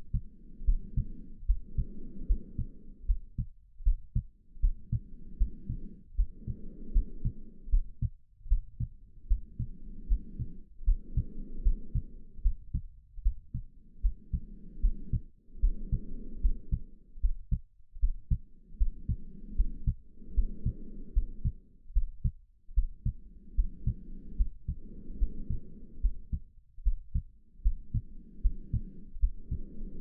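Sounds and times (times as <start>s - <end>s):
heartbeat thumping: 0.0s - 29.7s
slow breathing: 0.0s - 30.0s.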